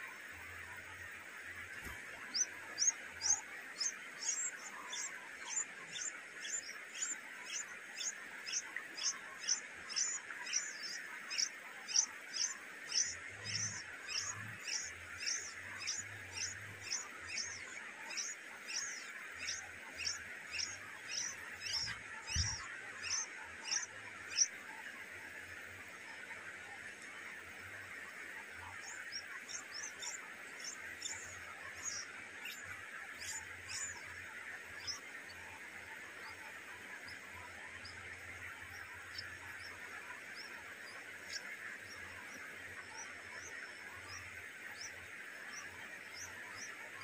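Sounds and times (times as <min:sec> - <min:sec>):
bird chirping: 0:01.8 - 0:24.6, 0:28.4 - 0:47.0.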